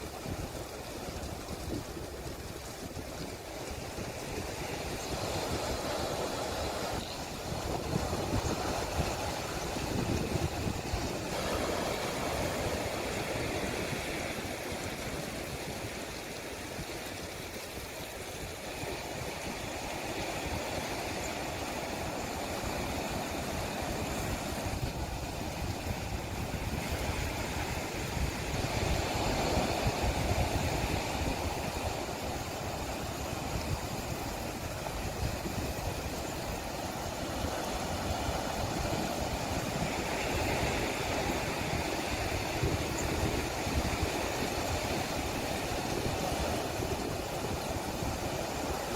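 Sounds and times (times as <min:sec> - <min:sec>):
sea rushing: 0:00.0 - 0:48.9
wind buffeting microphone: 0:00.0 - 0:48.9.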